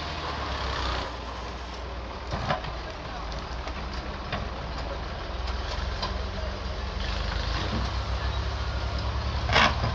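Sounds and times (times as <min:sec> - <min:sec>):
excavator diesel engine running: 0:00.0 - 0:09.9.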